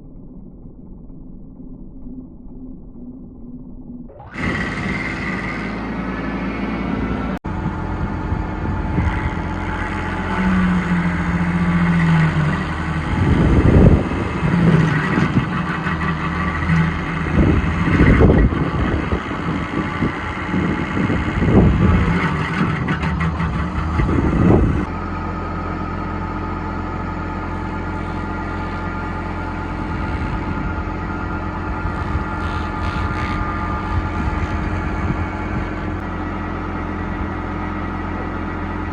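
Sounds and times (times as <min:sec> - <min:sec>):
mini excavator engine drone: 0:00.0 - 0:38.9.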